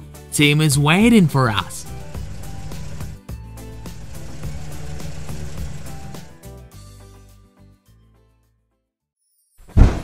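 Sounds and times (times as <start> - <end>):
cartoon background music: 0.0 - 8.6.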